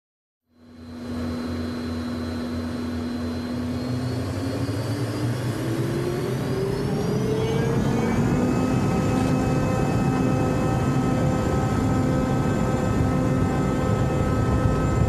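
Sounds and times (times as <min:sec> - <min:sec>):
jet engines spooling up: 0:00.7 - 0:15.0.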